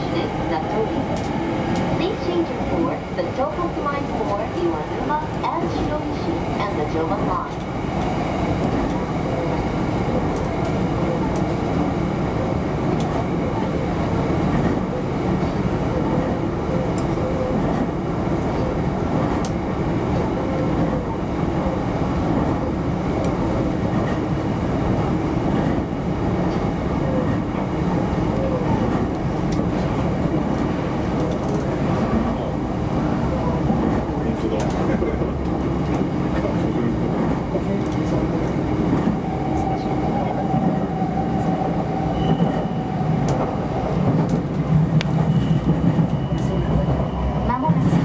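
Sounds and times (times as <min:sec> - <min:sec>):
train wheels rumbling: 0:00.0 - 0:48.0.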